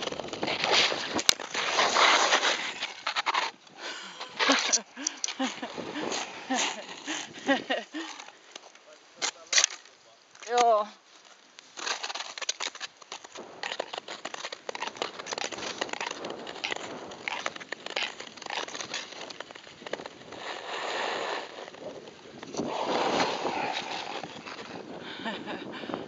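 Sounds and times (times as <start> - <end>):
ice skates scraping on ice: 0.0 - 8.4, 9.2 - 26.0
ice crackling clicks: 0.0 - 24.9.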